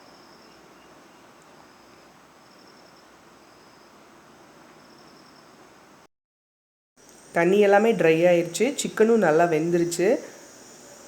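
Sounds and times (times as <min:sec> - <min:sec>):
crickets chirping: 0:00.0 - 0:06.0, 0:07.0 - 0:11.0
faint steady hiss: 0:00.0 - 0:06.1, 0:07.0 - 0:11.0.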